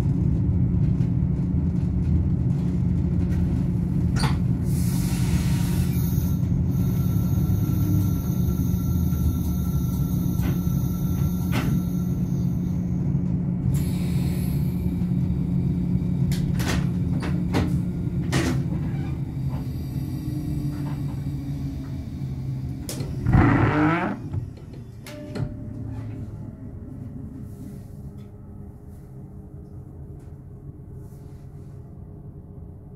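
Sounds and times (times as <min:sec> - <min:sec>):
train rumbling on rails: 0:00.0 - 0:32.9.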